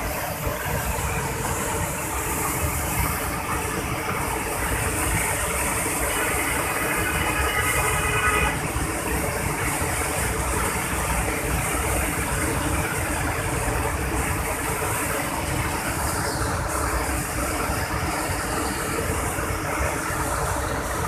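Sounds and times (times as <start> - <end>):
waterfall rushing water: 0.0 - 21.0.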